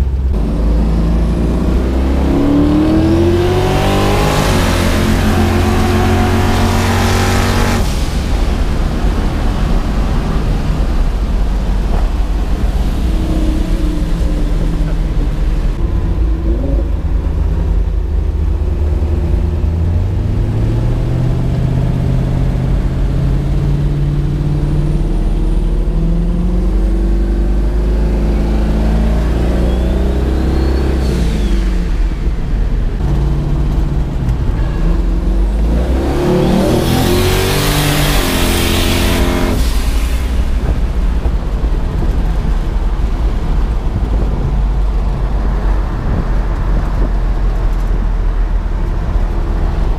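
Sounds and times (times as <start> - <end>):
car engine revving and accelerating: 0.0 - 49.9.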